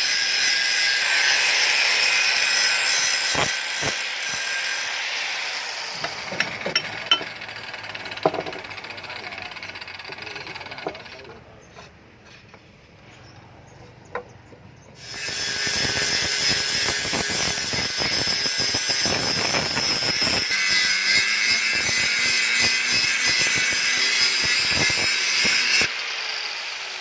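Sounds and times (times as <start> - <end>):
power tool whining and rasping: 0.0 - 12.7, 15.0 - 27.0.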